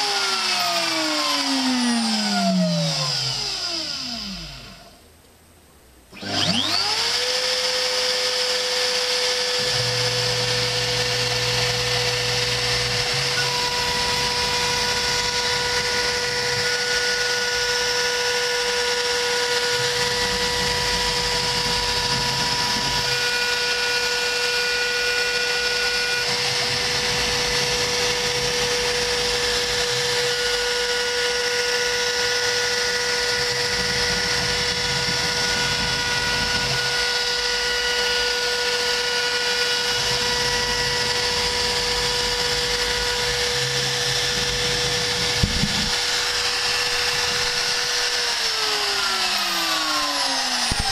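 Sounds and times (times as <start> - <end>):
router spindle whining: 0.0 - 5.0, 6.1 - 50.9.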